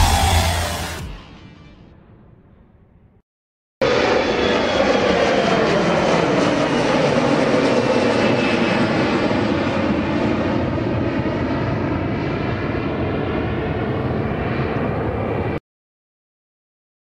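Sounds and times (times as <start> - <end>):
jet engines roaring: 0.0 - 1.9, 3.8 - 15.6.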